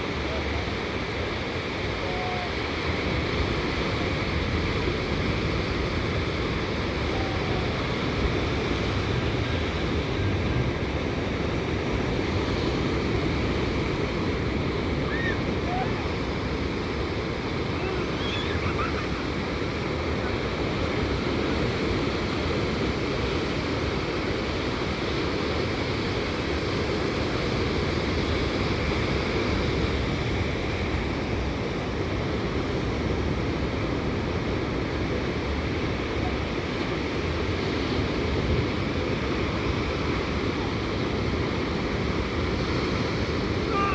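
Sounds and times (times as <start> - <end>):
gentle surf on sandy beach: 0.0 - 43.9.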